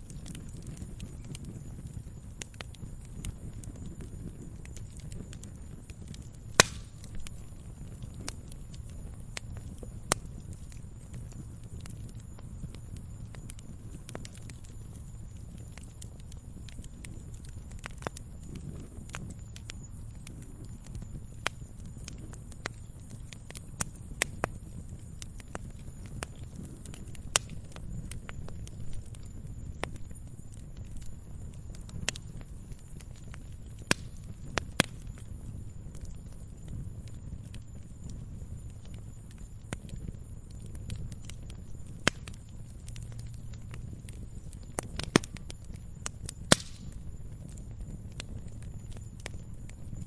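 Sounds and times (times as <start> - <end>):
campfire crackling and popping: 0.0 - 50.0
low fire rumble: 0.0 - 50.0
low rush of flames: 0.0 - 50.0.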